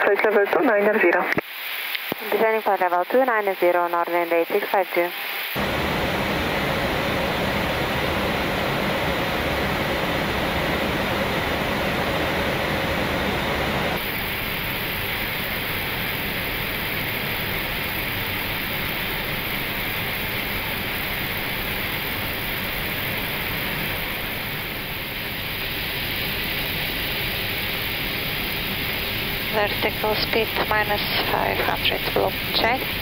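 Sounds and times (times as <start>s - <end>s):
air-conditioning noise: 5.2s - 33.0s
rushing airflow: 5.5s - 33.0s.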